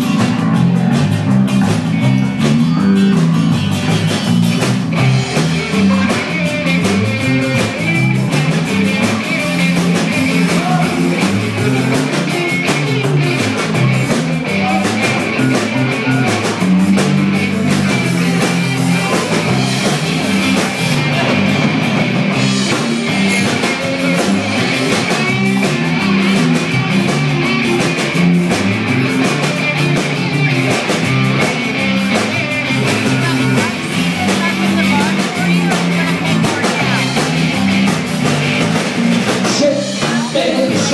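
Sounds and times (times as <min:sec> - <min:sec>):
drum kit: 0:00.0 - 0:40.9
electric guitar: 0:00.0 - 0:40.9
live rock band playing: 0:00.0 - 0:40.9.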